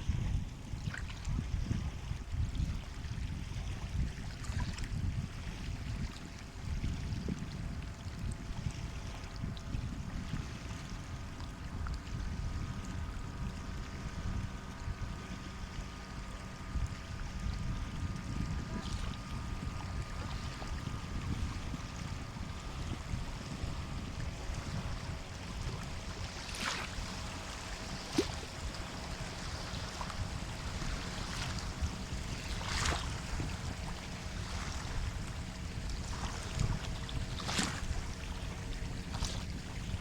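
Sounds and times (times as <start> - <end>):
low rumble of surf: 0.0 - 40.0.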